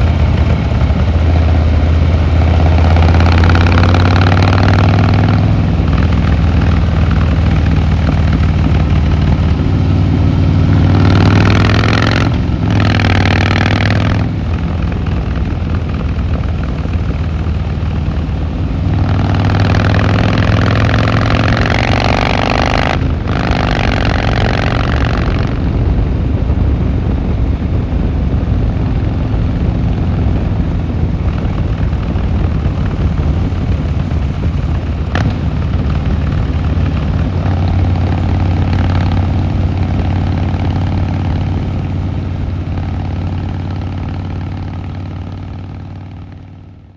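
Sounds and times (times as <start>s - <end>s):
motorcycle engine and exhaust: 0.0s - 46.9s.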